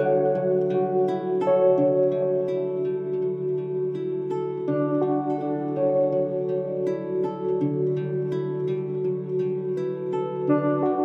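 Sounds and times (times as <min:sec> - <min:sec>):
plucked notes ringing: 0:00.0 - 0:11.0.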